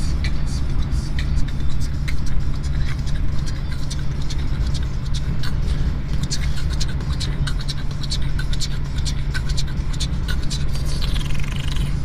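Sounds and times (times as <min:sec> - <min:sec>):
beatboxing: 0:00.0 - 0:12.0
truck engine drone: 0:00.0 - 0:12.0.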